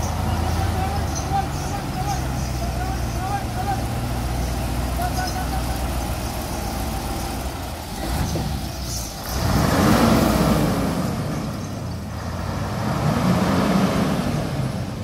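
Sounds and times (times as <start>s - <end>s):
truck diesel engine revving: 0.0s - 15.0s.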